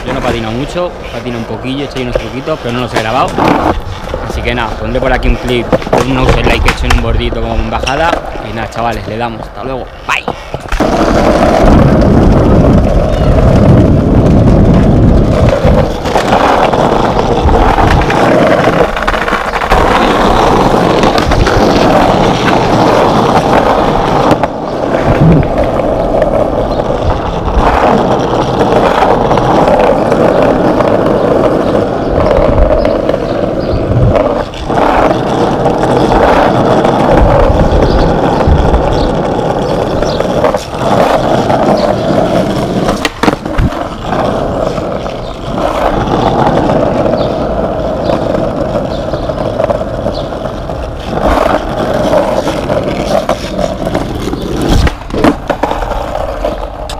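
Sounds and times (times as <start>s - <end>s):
skateboard clacks and knocks: 0.0s - 56.9s
skateboard wheels rolling on pavement: 0.0s - 56.9s.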